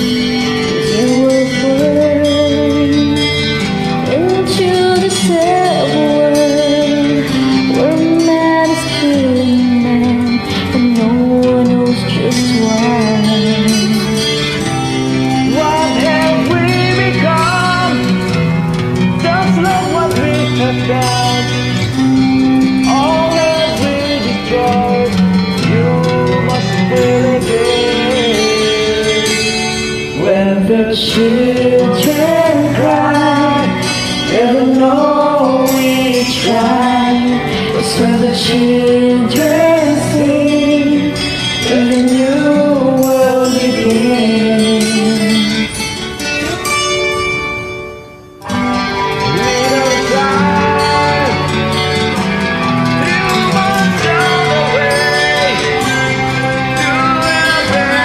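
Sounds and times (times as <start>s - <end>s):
person singing: 0.0s - 18.3s, 19.2s - 46.6s, 48.4s - 58.0s
acoustic guitar ballad: 0.0s - 58.0s.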